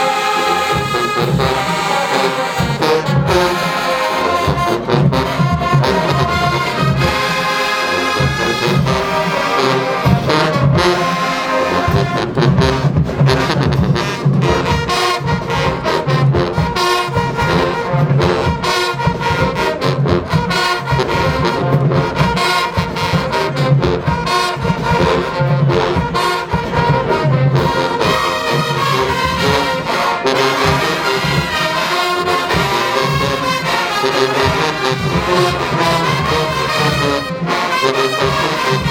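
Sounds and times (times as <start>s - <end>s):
brass section playing: 0.0s - 38.9s
steady drum beat: 0.0s - 38.9s.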